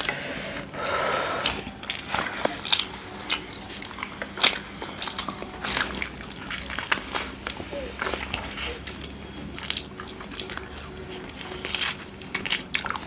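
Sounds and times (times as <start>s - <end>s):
chewing food with crunches: 0.0s - 13.0s.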